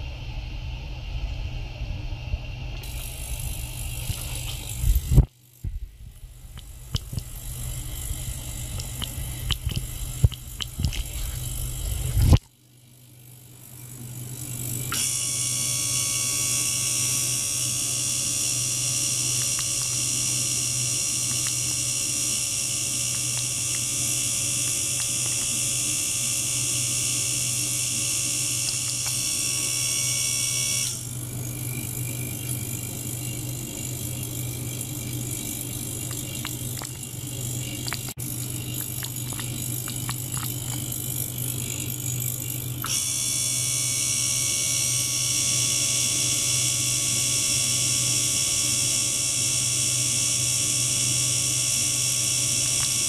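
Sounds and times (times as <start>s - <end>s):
ultrasonic cleaner buzzing and hissing: 1.0s - 12.4s, 13.1s - 53.0s.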